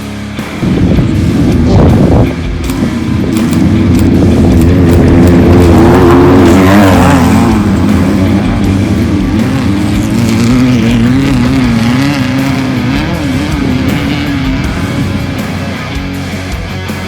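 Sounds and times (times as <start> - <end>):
race vehicle engine revving: 0.0 - 17.0.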